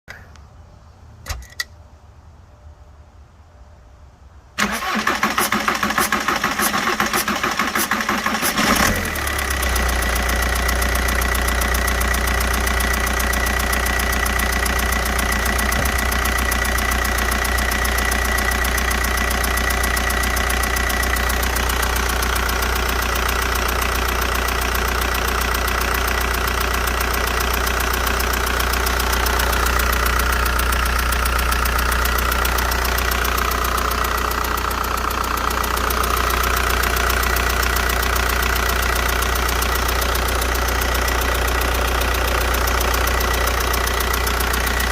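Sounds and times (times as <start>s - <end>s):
diesel engine idling: 3.1s - 44.9s.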